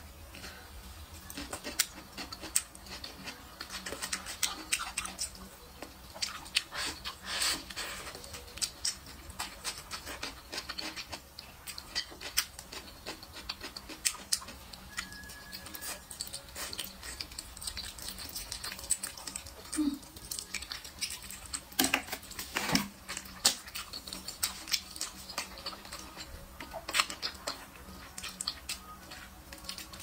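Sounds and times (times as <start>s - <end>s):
person chewing with wet smacks: 1.2s - 30.0s.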